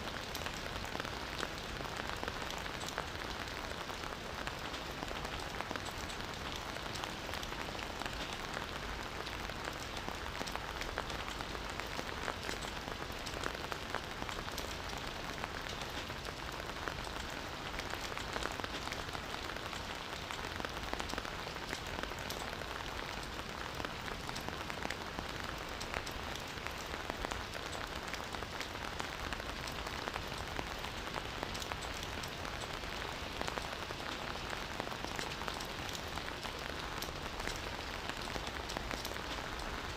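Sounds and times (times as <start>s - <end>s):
raindrops pattering on leaves: 0.0s - 39.9s
steady rainfall hiss: 0.0s - 39.9s.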